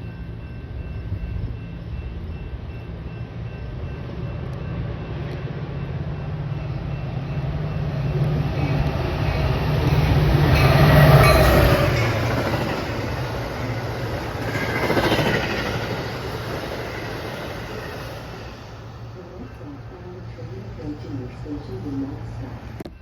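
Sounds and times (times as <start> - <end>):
train engine drone: 0.0 - 23.0
train rail noise: 0.0 - 23.0.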